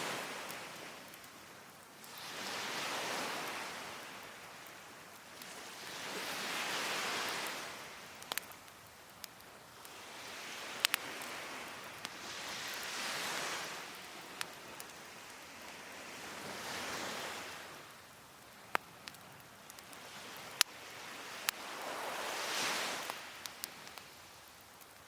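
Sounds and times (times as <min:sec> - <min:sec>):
wood fire popping and crackling: 0:00.0 - 0:16.5, 0:17.4 - 0:25.0
waves washing onto shore: 0:00.0 - 0:25.0.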